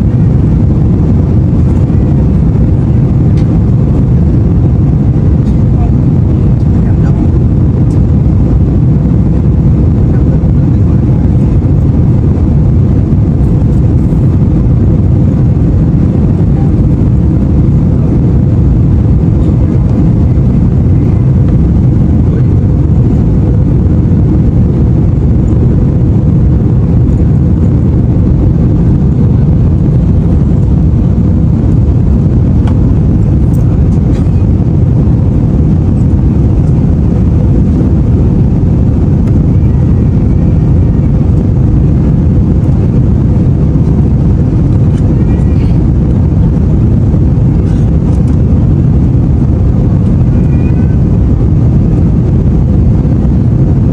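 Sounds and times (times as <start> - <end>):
airliner cabin rumble: 0.0 - 53.9
faint steady hum: 0.0 - 53.9.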